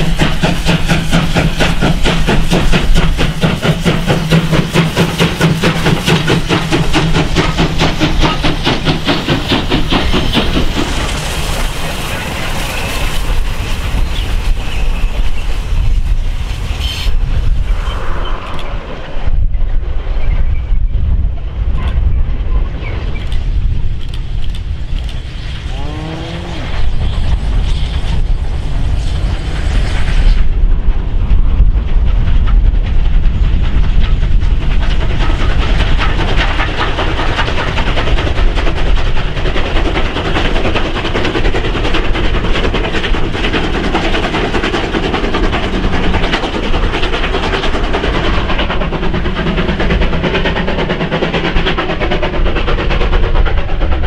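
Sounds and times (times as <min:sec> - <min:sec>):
steam locomotive passing: 0:00.0 - 0:54.0.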